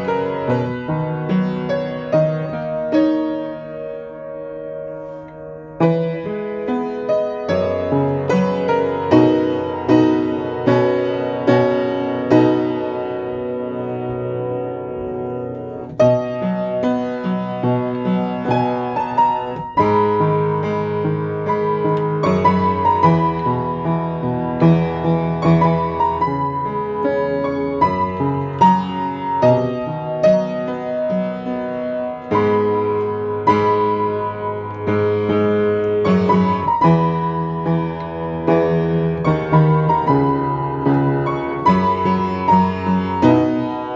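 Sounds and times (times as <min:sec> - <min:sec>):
slow piano piece: 0:00.0 - 0:43.9.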